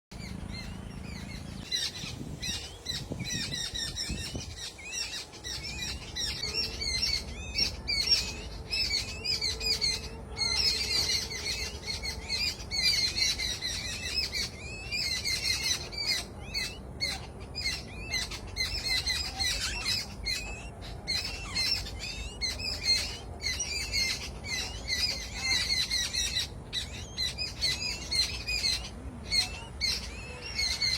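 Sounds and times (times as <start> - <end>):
small birds chirping and squawking: 0.1 - 30.9.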